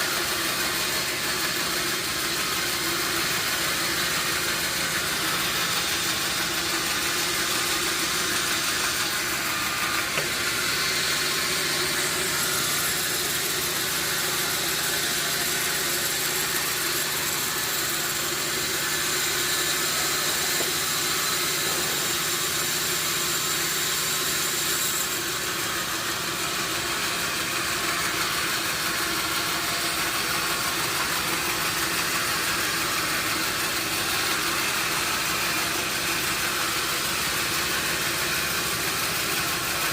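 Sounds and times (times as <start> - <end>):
sawmill motor hum: 0.0 - 39.9.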